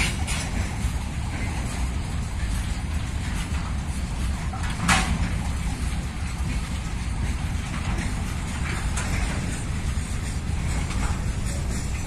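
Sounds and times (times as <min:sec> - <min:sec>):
sharp rail clack: 0:00.0 - 0:12.0
train wheels rumbling on rails: 0:00.0 - 0:12.0.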